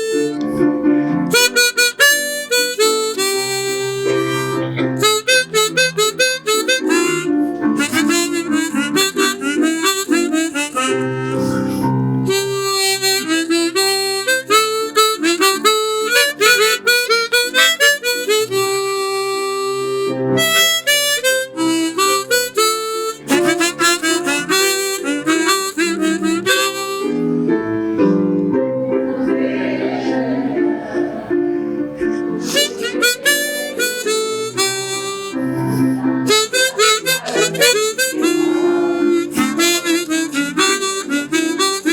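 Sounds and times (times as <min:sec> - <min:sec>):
harmonica playing lively melody: 0:00.0 - 0:29.4, 0:30.9 - 0:41.9.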